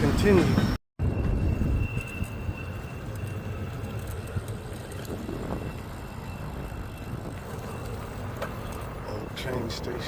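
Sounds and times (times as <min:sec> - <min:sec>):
wind buffeting microphone: 0:01.0 - 0:09.4
bicycle tyre noise: 0:01.0 - 0:10.0.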